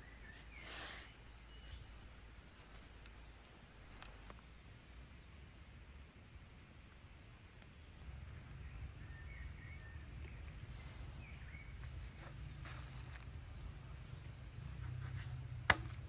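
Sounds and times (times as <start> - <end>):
faint bird chirps: 0.0 - 4.9, 7.2 - 16.0.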